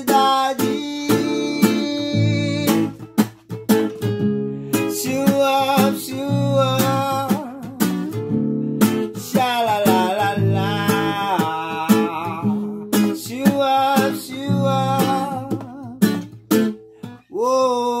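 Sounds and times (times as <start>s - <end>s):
person singing: 0.0s - 3.1s, 4.6s - 16.3s, 17.1s - 18.0s
acoustic guitar strumming: 0.0s - 18.0s.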